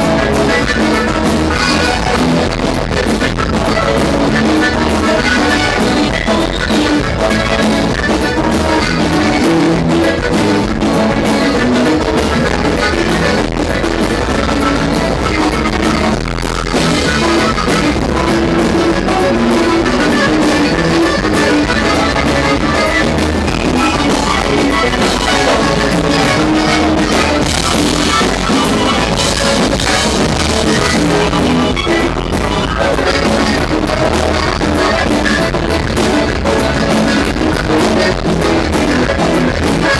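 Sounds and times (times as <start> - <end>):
live band playing amplified music: 0.0 - 39.9.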